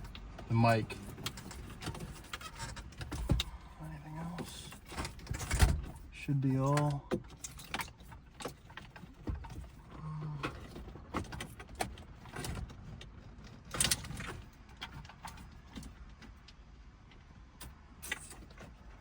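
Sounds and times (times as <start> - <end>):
wiring and plugs rattling: 0.0 - 16.5.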